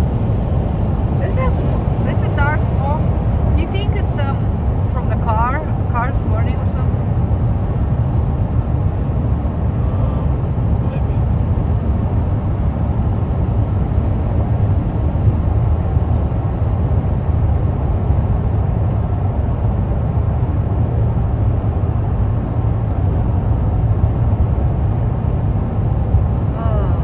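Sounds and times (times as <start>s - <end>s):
car cabin road noise: 0.0s - 27.0s.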